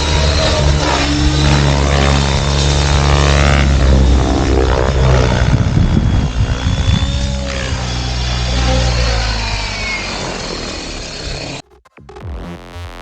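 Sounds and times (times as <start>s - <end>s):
rc helicopter rotor buzzing: 0.0s - 12.7s.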